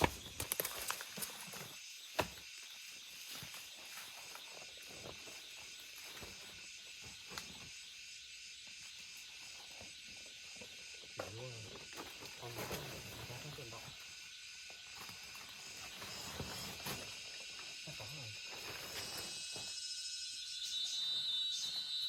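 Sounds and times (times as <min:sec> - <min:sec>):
high insect chirring: 0:00.0 - 0:22.0.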